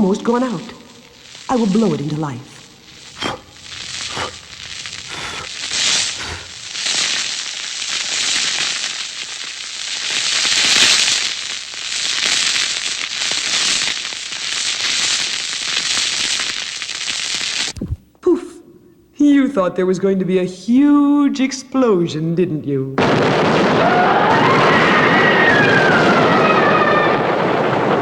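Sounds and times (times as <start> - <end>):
fuse burning with crackling hiss: 0.0 - 18.1, 23.0 - 28.0.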